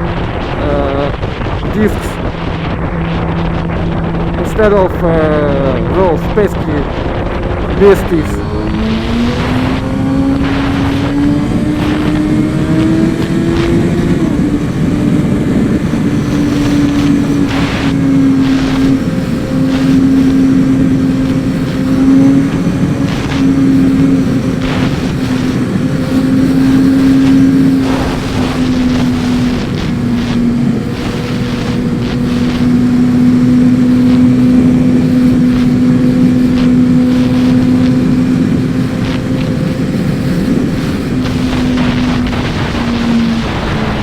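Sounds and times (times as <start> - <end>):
motorcycle engine cruising: 0.0 - 44.0
wind rush over microphone: 0.0 - 44.0.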